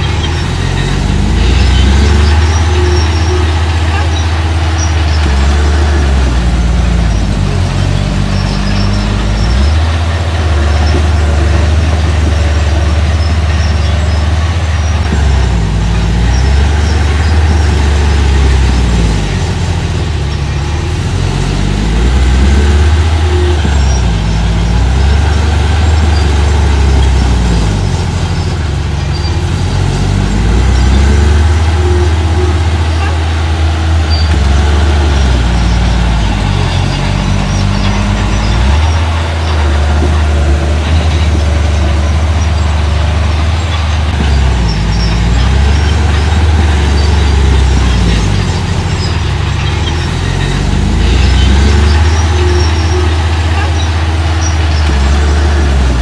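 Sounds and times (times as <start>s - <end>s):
earth-moving machine engine revving: 0.0s - 56.0s.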